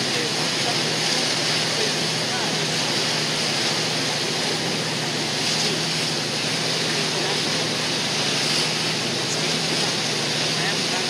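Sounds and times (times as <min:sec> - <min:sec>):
boat engine drone: 0:00.0 - 0:11.0
water rushing: 0:00.0 - 0:11.0.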